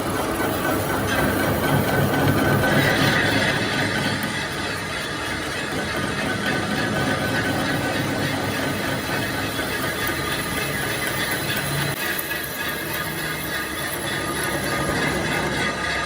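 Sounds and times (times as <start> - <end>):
metalworking machinery running: 0.0 - 16.0.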